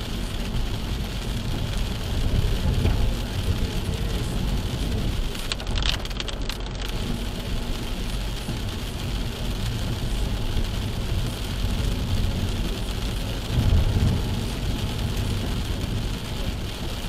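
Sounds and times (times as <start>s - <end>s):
road and engine rumble: 0.0s - 17.0s
tyres hissing on wet road: 0.0s - 17.0s.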